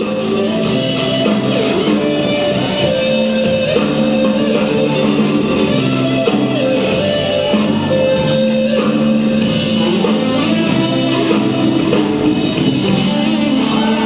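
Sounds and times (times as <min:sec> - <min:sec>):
sliding guitar melody: 0:00.0 - 0:14.0
steady lower accompaniment: 0:00.0 - 0:14.0.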